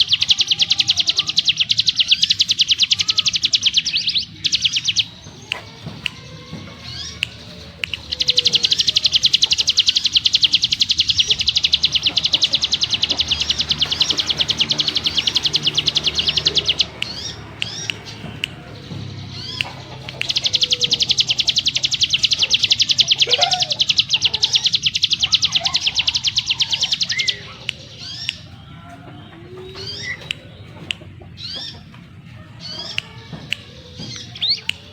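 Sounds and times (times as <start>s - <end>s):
songbird high buzzing trills: 0.0s - 28.3s
bird rising chip notes: 0.0s - 28.5s.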